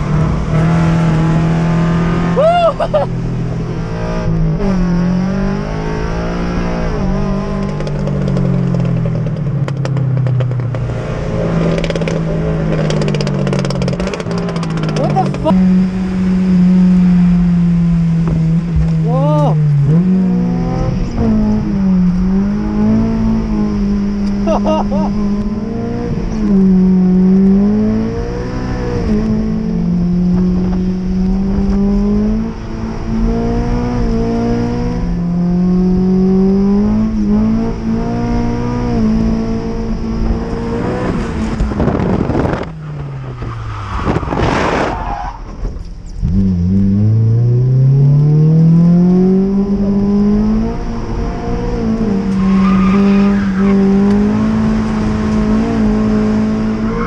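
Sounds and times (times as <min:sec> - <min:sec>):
car engine from inside cabin: 0:00.0 - 0:44.3, 0:45.7 - 0:57.0.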